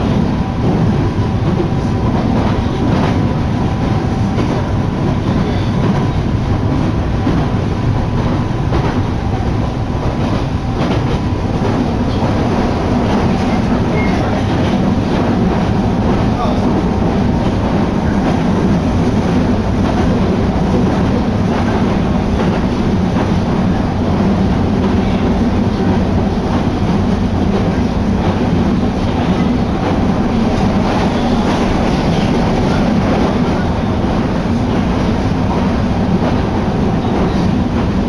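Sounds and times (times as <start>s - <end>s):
subway train wheels rumbling: 0.0s - 38.0s.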